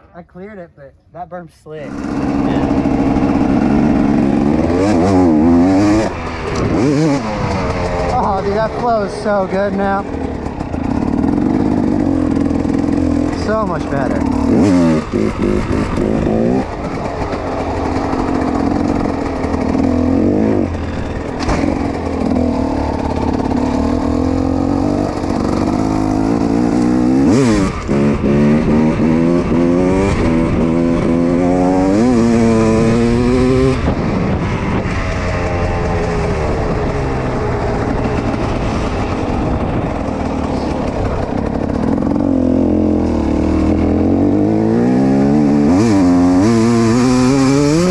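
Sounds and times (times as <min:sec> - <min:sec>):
dirt bike engine revving: 0:01.8 - 0:47.9.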